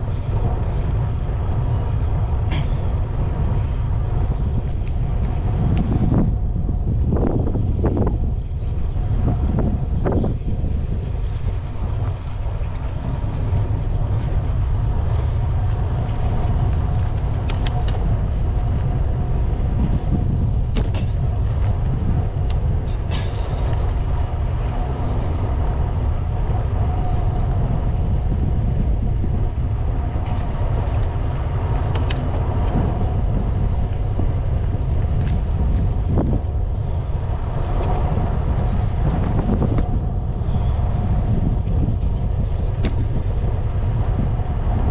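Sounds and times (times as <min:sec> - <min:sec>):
bicycle tyre noise: 0:00.0 - 0:44.9
wind buffeting microphone: 0:00.0 - 0:44.9.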